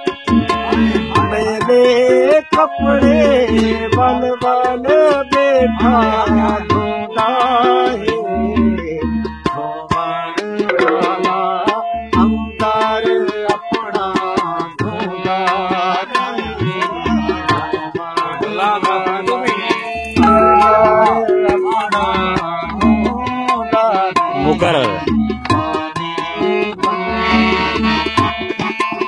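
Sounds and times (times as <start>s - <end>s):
hand drum rhythm: 0.0s - 29.0s
harmonium melody: 0.0s - 29.0s.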